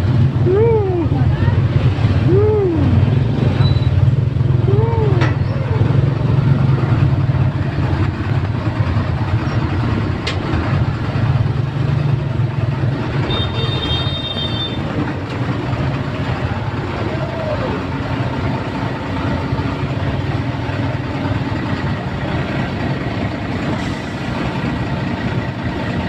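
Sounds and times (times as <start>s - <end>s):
engines idling in traffic: 0.0s - 26.0s.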